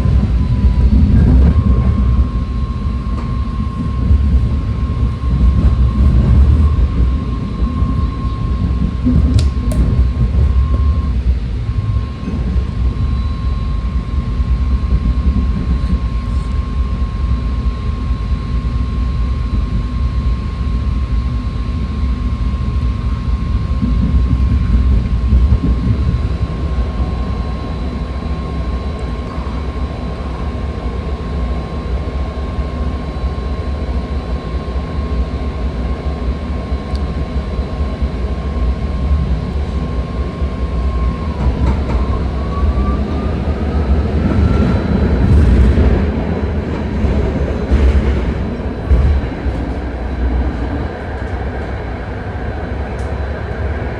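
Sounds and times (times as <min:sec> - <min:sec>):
high whine: 0:00.0 - 0:53.9
train wheels rumbling on rail: 0:00.0 - 0:53.9.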